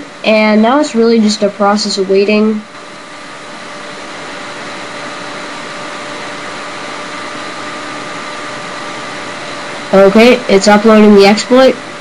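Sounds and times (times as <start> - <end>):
faint hum tones: 0.0 - 12.0
steady whooshing noise: 2.1 - 12.0.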